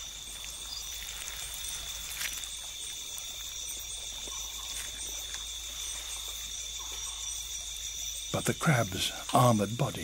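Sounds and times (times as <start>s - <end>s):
water trickling: 0.0s - 8.3s
crickets trilling: 0.0s - 10.0s.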